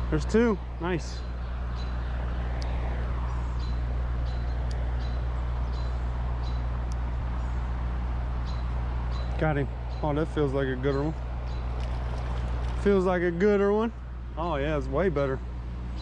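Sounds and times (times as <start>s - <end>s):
vehicle passing by: 0.0s - 13.4s
outdoor background noise: 0.0s - 16.0s.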